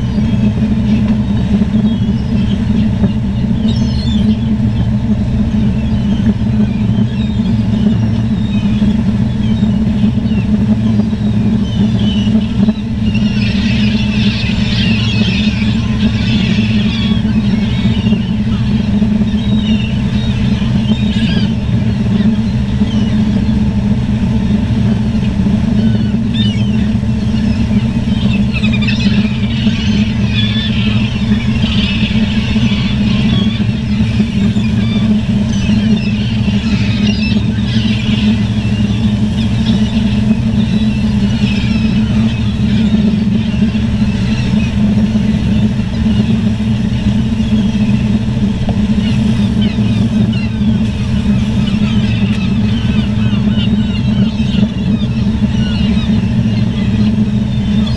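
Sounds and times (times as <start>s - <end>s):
engine drone: 0.0s - 57.9s
gulls calling: 0.0s - 57.9s.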